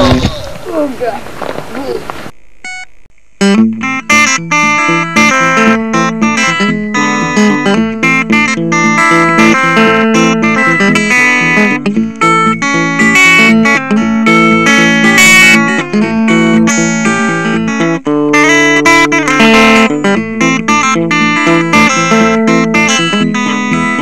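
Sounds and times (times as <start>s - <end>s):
plucked guitar notes: 3.4s - 24.0s.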